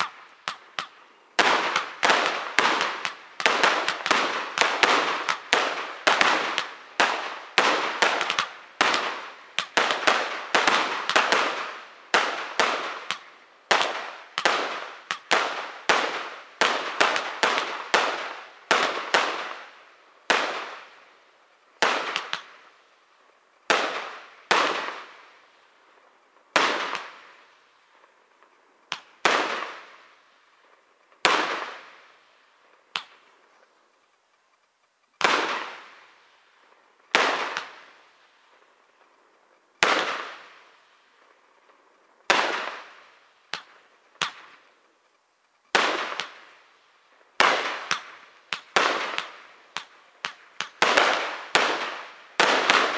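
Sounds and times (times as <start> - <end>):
fireworks bangs echoing: 0.0 - 21.1, 21.8 - 22.8, 23.6 - 25.4, 26.4 - 33.6, 35.2 - 38.7, 39.8 - 40.8, 41.6 - 44.7, 45.7 - 46.6, 47.4 - 52.9.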